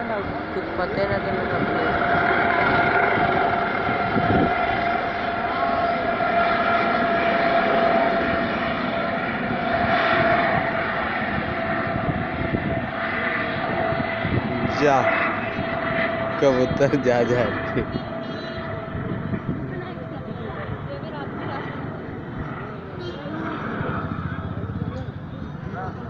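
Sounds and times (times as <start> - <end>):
helicopter turbine and rotor: 0.0 - 26.0.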